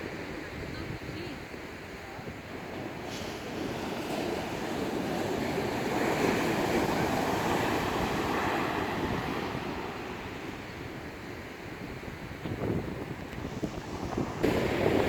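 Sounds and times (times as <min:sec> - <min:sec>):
rough sea surf breaking: 0:00.0 - 0:15.0
wind buffeting microphone: 0:00.0 - 0:15.0.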